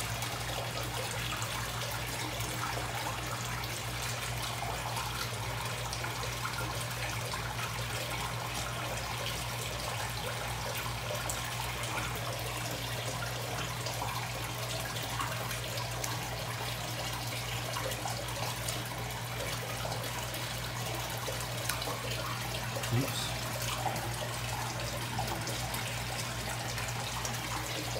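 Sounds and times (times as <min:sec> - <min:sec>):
water trickling: 0:00.0 - 0:27.9.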